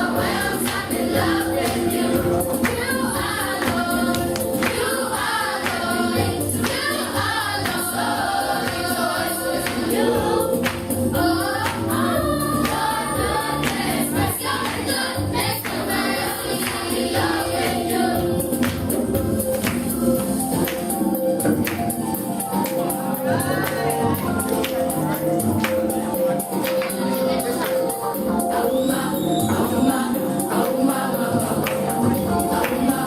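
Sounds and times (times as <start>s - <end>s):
choir singing gospel: 0.0s - 33.0s
hand percussion beat: 0.0s - 33.0s.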